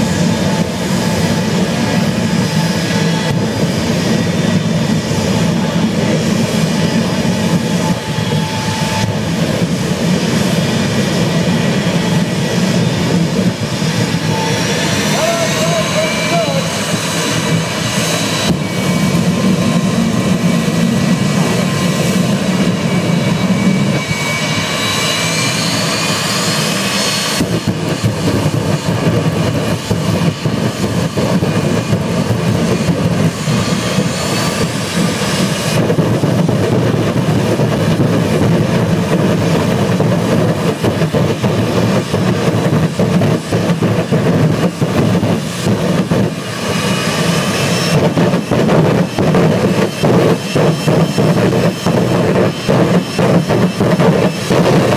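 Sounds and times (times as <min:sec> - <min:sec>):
jet turbine engine roaring: 0:00.0 - 0:54.9.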